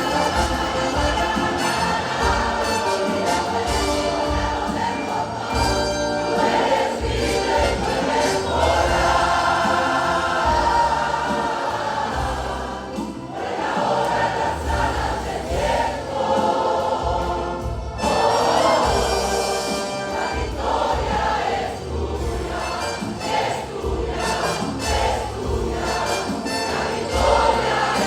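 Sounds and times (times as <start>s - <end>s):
choir singing worship song: 0.0s - 28.0s
musical accompaniment: 0.0s - 28.0s.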